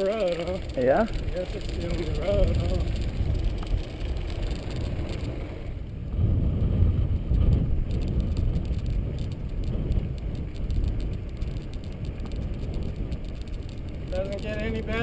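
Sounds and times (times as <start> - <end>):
bicycle tyre noise: 0.0 - 15.0
wind on microphone: 0.0 - 15.0.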